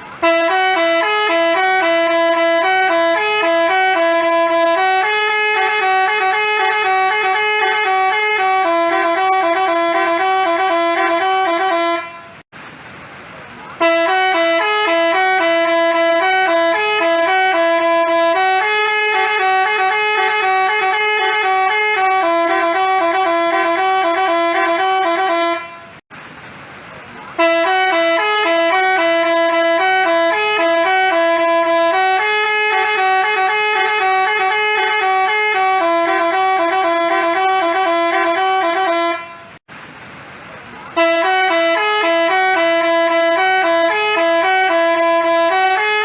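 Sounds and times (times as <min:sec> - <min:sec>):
multi-tone bus horn melody: 0:00.0 - 0:12.5, 0:13.7 - 0:26.0, 0:27.3 - 0:39.7, 0:40.9 - 0:46.0.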